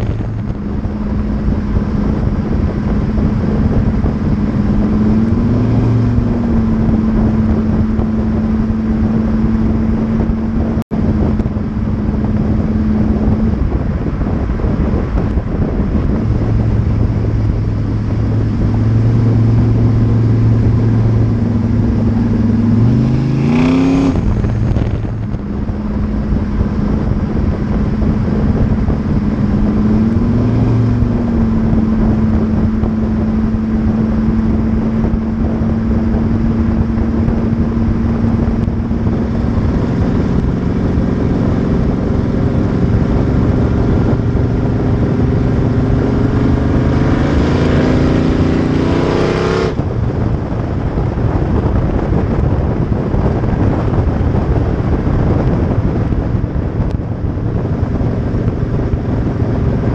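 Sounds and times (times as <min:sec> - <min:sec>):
car engine droning: 0:00.0 - 0:59.9
road and wind noise: 0:00.0 - 0:59.9.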